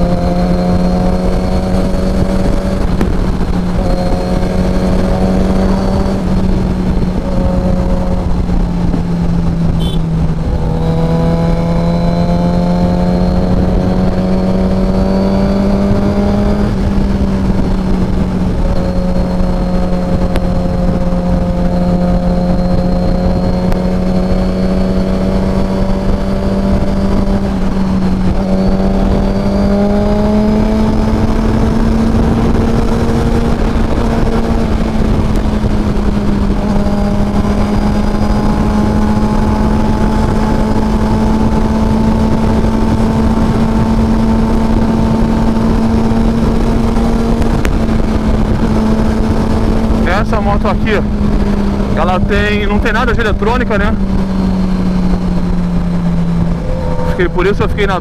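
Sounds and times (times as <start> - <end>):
motorcycle engine cruising: 0.0 - 58.0
wind rushing: 0.0 - 58.0.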